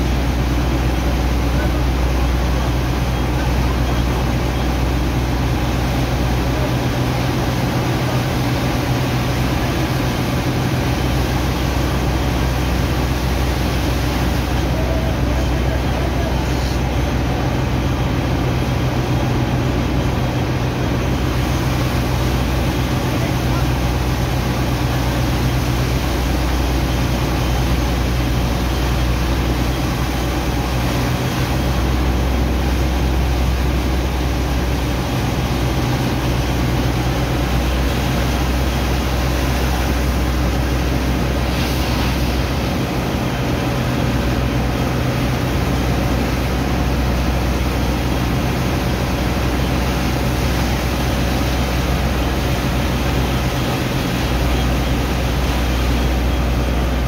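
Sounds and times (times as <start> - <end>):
pump engine droning: 0.0 - 57.0
water jets hissing and splashing: 0.0 - 57.0.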